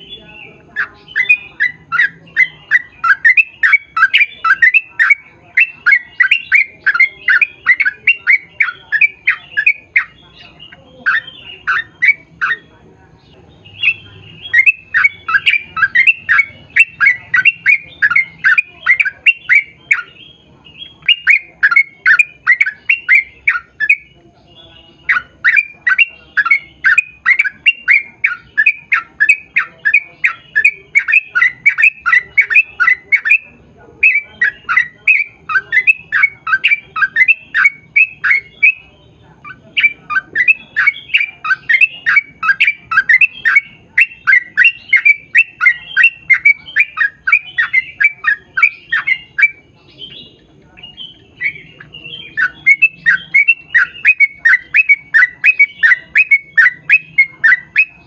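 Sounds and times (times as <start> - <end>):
bulbul singing chirping runs: 0.0 - 58.0.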